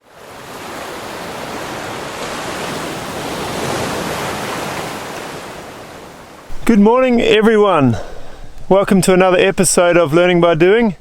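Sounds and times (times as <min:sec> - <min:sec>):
waves washing: 0:00.0 - 0:11.0.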